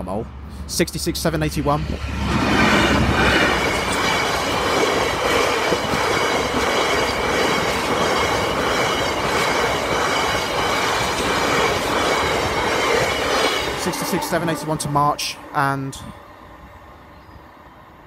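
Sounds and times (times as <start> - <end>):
diesel locomotive passing: 0.2 - 18.0
wheels rumbling on rails: 1.2 - 17.2.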